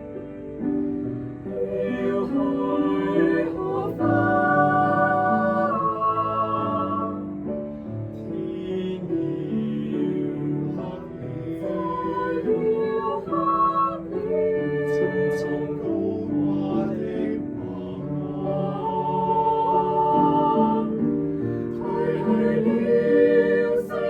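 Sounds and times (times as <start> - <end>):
mixed choir singing: 1.4 - 24.0.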